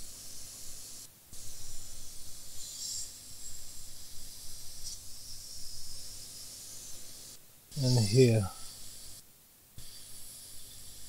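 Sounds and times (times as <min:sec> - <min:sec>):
sizzling hisses: 0:00.0 - 0:09.2, 0:09.8 - 0:11.0
soldering hiss: 0:00.0 - 0:09.2, 0:09.8 - 0:11.0.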